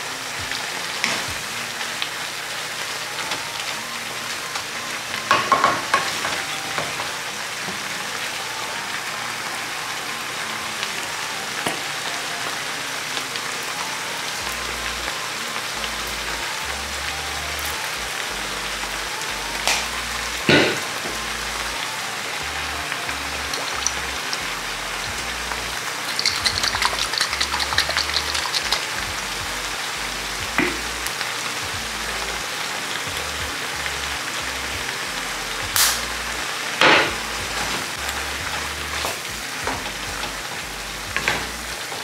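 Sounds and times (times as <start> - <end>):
meat and vegetables sizzling in pan: 0.0 - 42.0.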